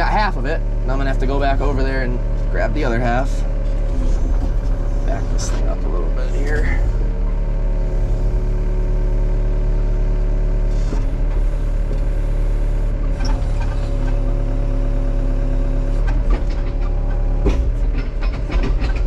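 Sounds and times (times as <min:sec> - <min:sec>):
diesel engine whining and rumbling: 0:00.0 - 0:19.0.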